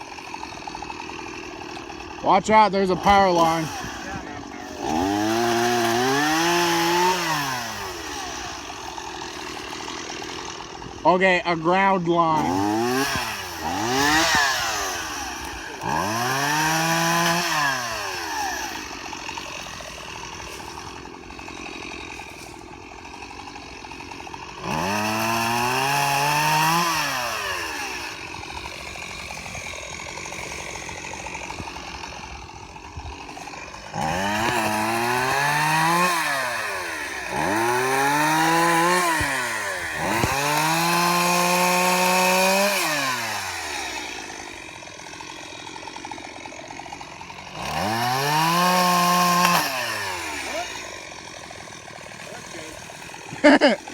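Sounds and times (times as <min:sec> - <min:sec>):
chainsaw engine revving: 0:00.0 - 0:53.9
chainsaw idling: 0:00.0 - 0:53.9.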